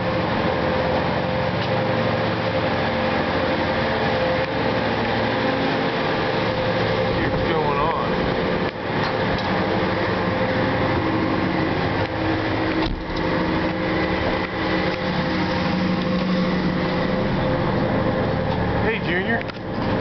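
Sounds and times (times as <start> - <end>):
boat engines droning: 0.0 - 20.0.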